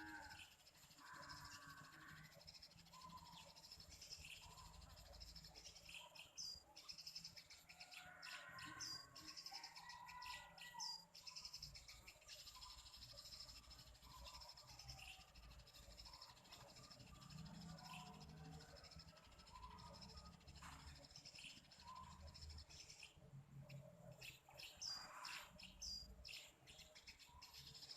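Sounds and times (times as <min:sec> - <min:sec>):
faint bird chirps: 0:00.0 - 0:27.9.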